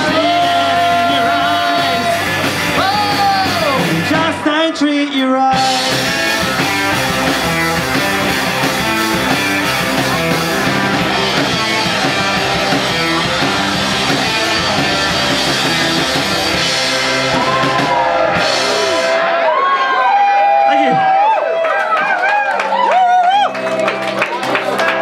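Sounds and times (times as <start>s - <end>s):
audience shouting: 0.0s - 4.3s, 6.9s - 25.0s
live rock band playing: 0.0s - 20.1s, 23.5s - 25.0s.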